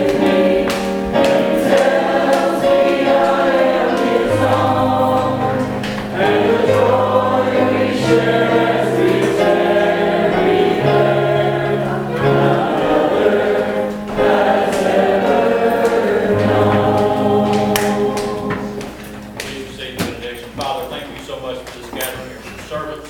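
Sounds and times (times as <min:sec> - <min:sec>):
group singing worship song: 0:00.0 - 0:20.2
instrumental accompaniment: 0:00.0 - 0:20.9.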